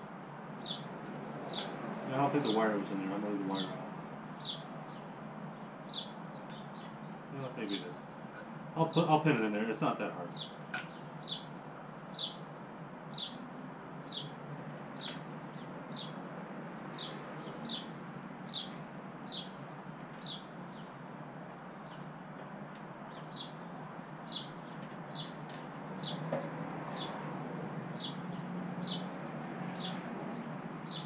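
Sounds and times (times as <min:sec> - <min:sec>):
bird chirping: 0:00.6 - 0:16.2, 0:16.9 - 0:21.0, 0:21.8 - 0:22.1, 0:23.0 - 0:27.3, 0:27.9 - 0:31.0.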